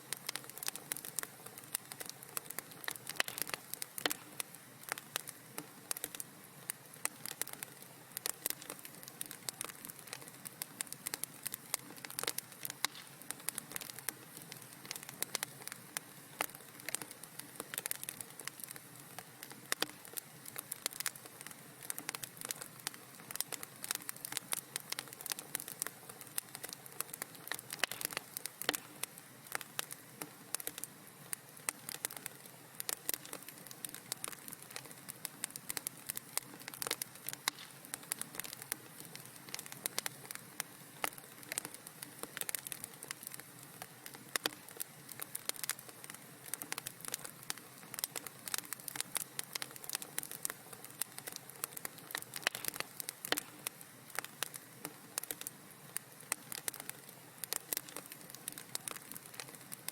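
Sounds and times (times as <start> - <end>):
low steady hiss: 0.0 - 59.9
wood fire crackling: 0.0 - 59.9.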